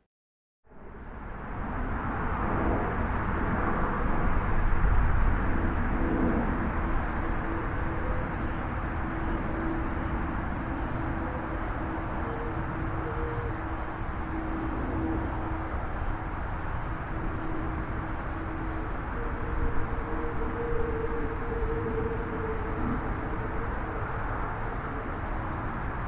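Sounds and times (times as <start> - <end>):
wind: 0.6 - 26.0.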